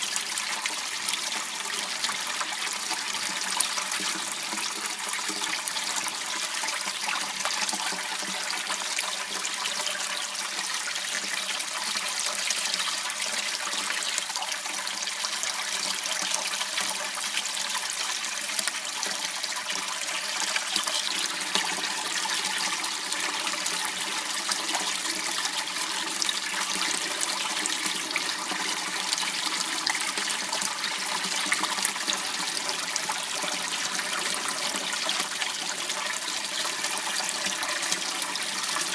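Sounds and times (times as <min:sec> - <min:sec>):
water flowing through a channel: 0:00.0 - 0:38.9.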